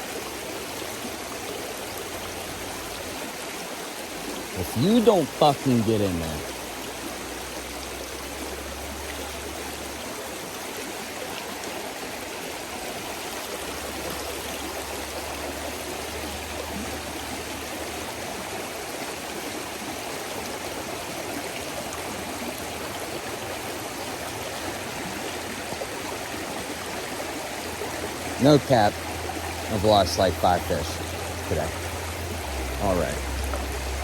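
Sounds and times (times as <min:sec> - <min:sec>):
stream water flowing: 0:00.0 - 0:34.0.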